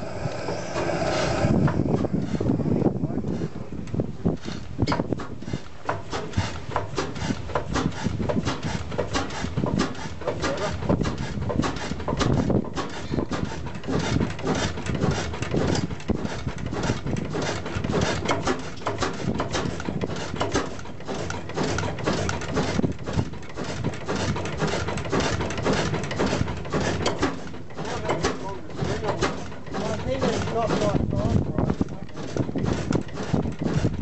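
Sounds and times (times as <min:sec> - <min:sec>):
oil engine knocking and clicking: 0:03.2 - 0:34.0.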